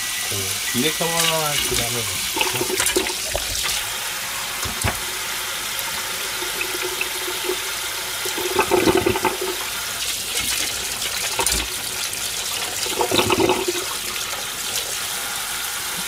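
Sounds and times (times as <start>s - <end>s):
tap water splashing into sink: 0.7s - 3.9s, 4.6s - 15.0s.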